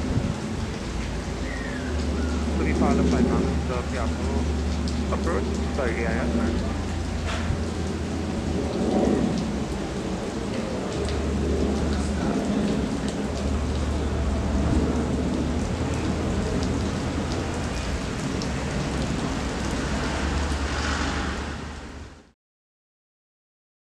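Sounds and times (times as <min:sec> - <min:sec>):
jet airliner roar overhead: 0:00.0 - 0:22.3.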